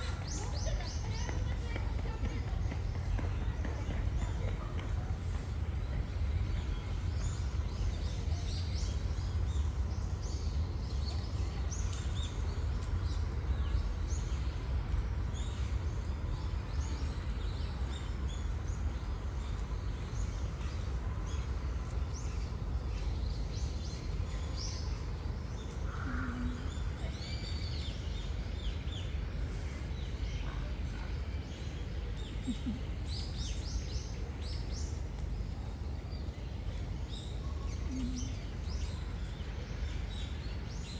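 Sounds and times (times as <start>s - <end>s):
low background rumble: 0.0s - 40.9s
small birds chirping: 0.0s - 40.9s.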